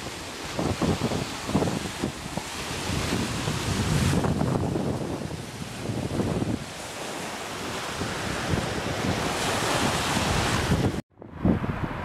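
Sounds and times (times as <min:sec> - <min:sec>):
small waves breaking on shore: 0:00.0 - 0:11.0
wind buffeting microphone: 0:00.0 - 0:12.0.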